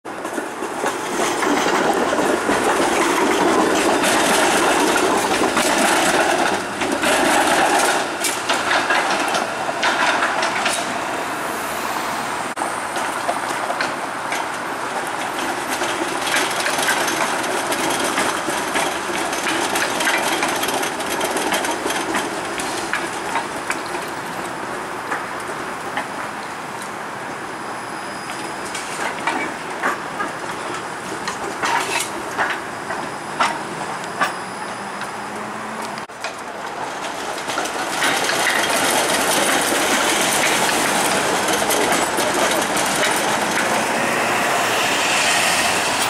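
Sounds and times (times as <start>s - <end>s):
tram rumble: 0.1s - 46.0s
tram wheels clacking over crossings: 0.1s - 46.0s.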